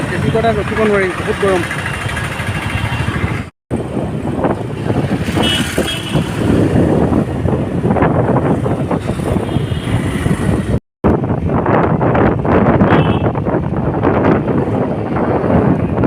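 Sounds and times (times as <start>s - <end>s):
vehicle engines and tyres: 0.0s - 16.0s.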